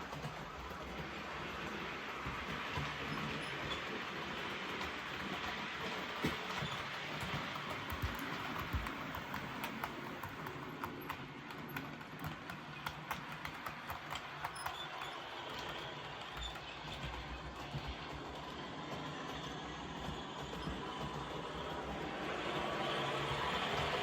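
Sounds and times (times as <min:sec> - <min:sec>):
model train wheels clicking: 0:00.0 - 0:24.0.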